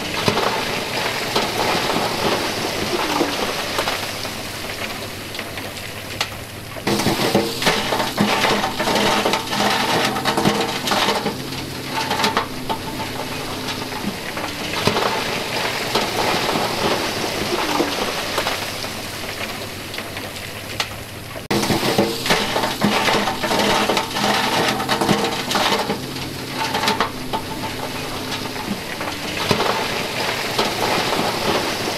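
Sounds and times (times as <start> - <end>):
diesel engines humming: 0.0 - 31.9
rock clattering off truck bed: 0.0 - 31.9
rocks splashing into water: 0.0 - 31.9.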